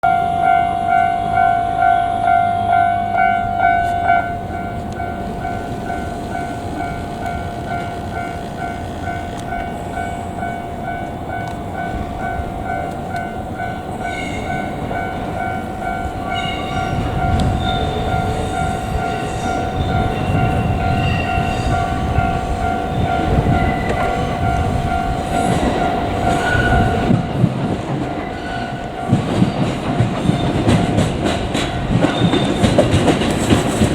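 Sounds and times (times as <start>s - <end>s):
electric train passing: 0.0s - 33.9s
level crossing warning signal: 0.0s - 33.9s
train wheel clatter: 0.0s - 33.9s.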